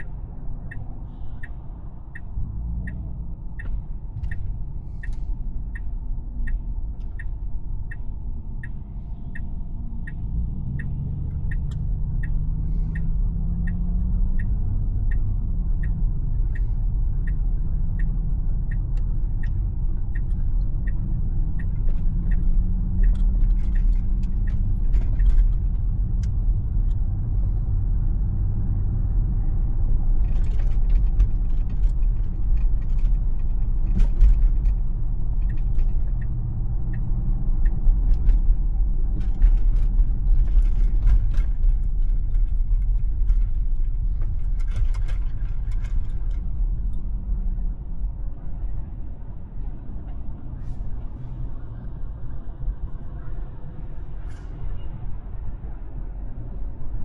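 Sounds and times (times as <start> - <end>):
turn signal ticking: 0.0 - 52.8
tyre and road noise: 0.0 - 57.0.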